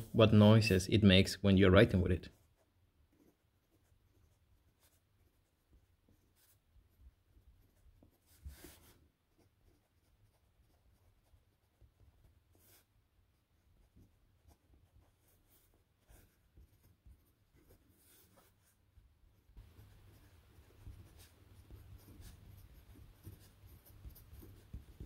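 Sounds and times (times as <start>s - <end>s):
pencil scratching on paper: 1.6s - 18.9s, 19.6s - 25.0s.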